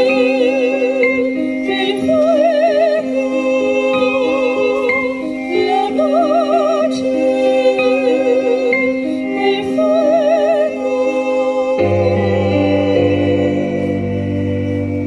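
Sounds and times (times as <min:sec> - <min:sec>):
sustained keyboard chords: 0:00.0 - 0:15.0
violin melody with vibrato: 0:00.0 - 0:15.0
women singing: 0:00.0 - 0:15.0.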